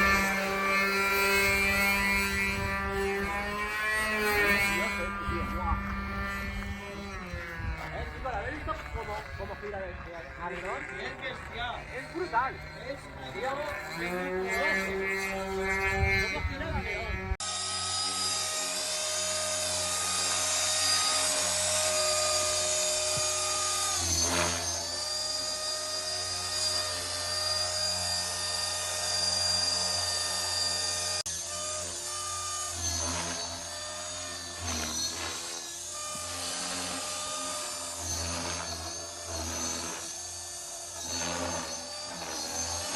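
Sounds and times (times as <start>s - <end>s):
model airplane motor whining: 0.0s - 42.9s.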